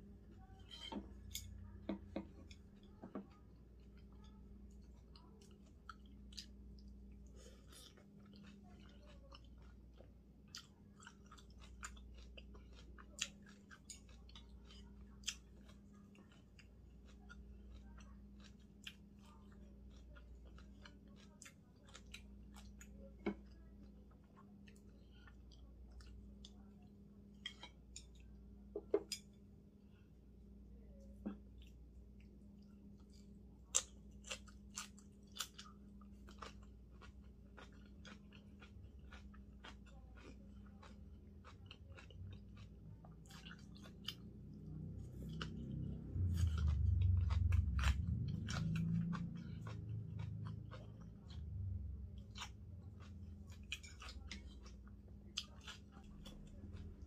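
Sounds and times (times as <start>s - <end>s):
faint steady hum: 0.0s - 57.0s
chewing and mouth smacks: 2.2s - 29.3s, 31.2s - 57.0s.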